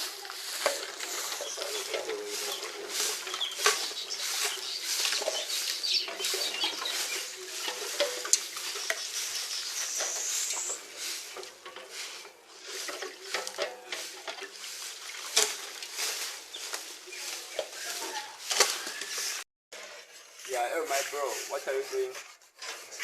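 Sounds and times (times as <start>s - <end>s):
broom sweeping: 0.0s - 23.0s.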